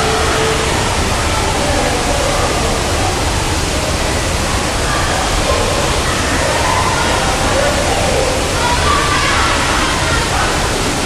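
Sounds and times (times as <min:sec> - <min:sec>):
water rushing in pool hall: 0:00.0 - 0:11.0.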